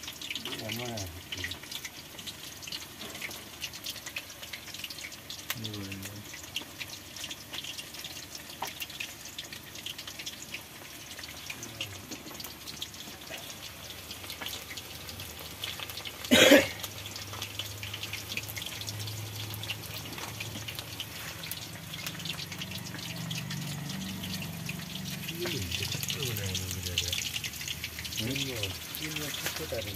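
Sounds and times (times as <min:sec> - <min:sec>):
oil sizzling and crackling: 0:00.0 - 0:29.9.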